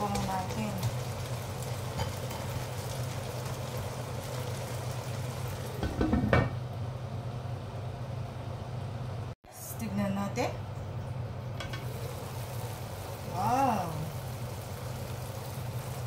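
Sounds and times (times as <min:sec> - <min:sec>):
vegetables sizzling in a wok: 0:00.0 - 0:09.4, 0:10.3 - 0:16.0.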